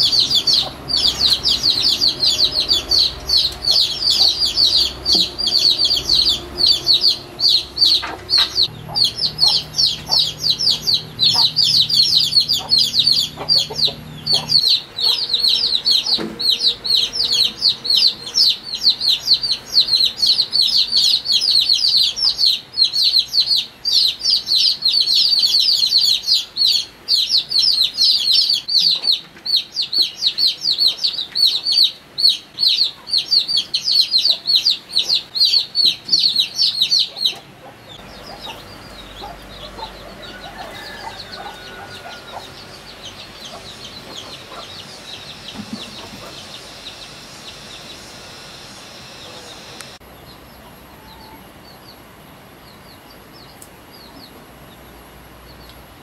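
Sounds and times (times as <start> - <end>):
chicks peeping: 0.0 - 52.0.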